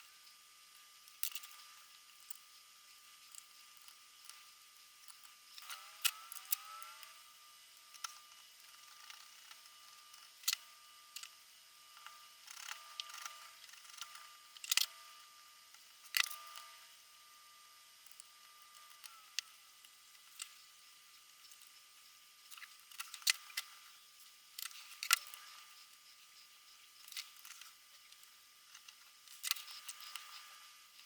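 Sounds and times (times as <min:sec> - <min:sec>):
faint steady whine: 0:00.0 - 0:31.0.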